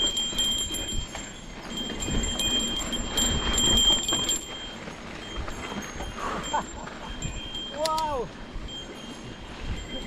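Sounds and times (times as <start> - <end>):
rumble and clatter on dirt trail: 0.0 - 10.0
small bell jingling: 0.0 - 10.0.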